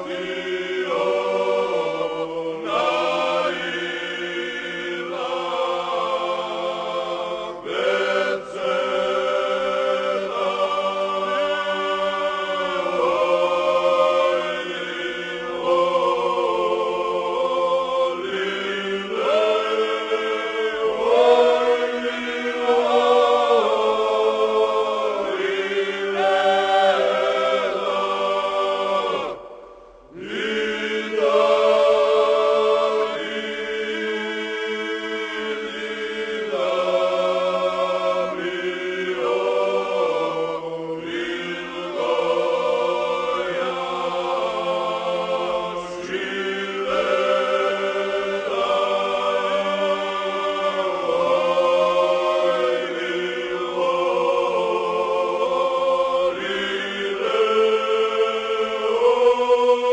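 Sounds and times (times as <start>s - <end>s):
choir singing in parts: 0.0s - 59.9s.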